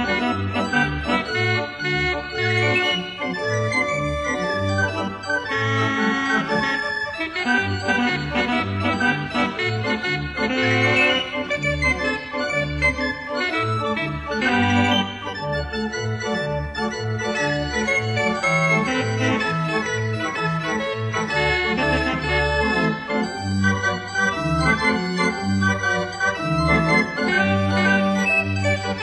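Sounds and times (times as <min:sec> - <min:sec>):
organ music: 0:00.0 - 0:29.0.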